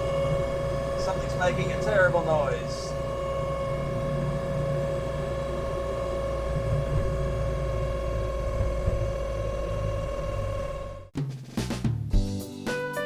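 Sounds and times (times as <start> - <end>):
car engine high-pitched whine: 0.0 - 11.1
low road rumble: 0.0 - 11.1.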